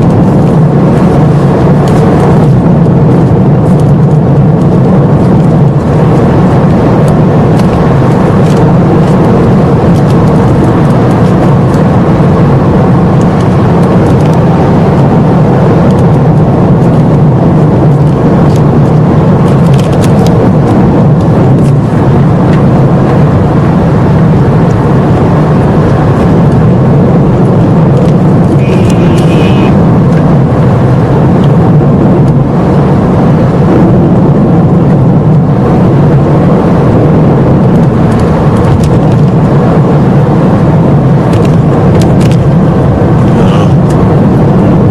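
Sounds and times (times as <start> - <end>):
car engine from inside cabin: 0.0 - 44.9
road noise: 0.0 - 44.9.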